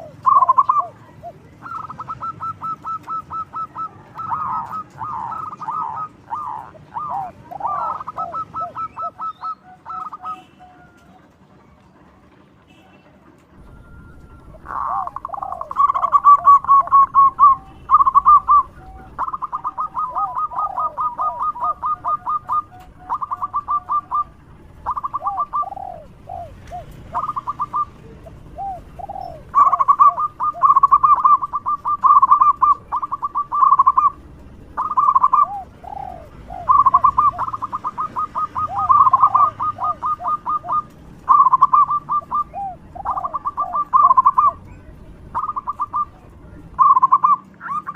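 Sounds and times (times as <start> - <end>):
dove cooing: 0.0 - 11.3, 13.6 - 47.9.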